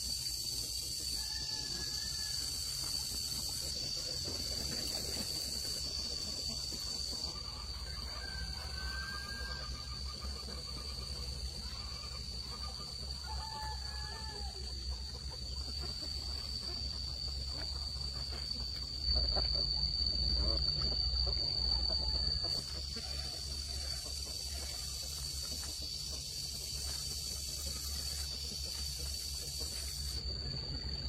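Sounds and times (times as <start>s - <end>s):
steady high-pitched whine: 0.0s - 31.0s.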